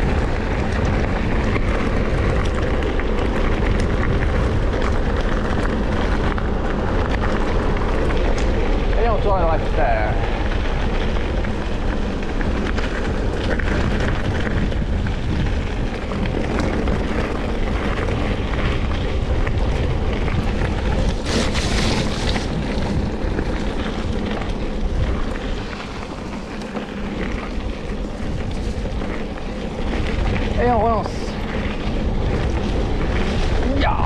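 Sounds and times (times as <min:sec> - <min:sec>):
bike tyres rattling on gravel: 0:00.0 - 0:34.0
wind buffeting microphone: 0:00.0 - 0:34.0.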